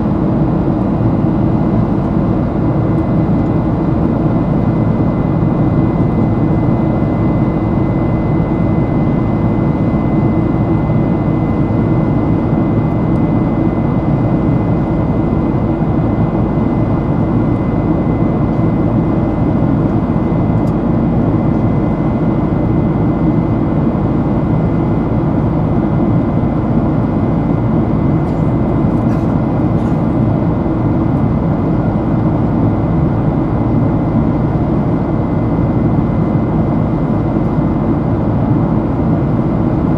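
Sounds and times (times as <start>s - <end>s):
jet engines roaring in cabin: 0.0s - 39.9s.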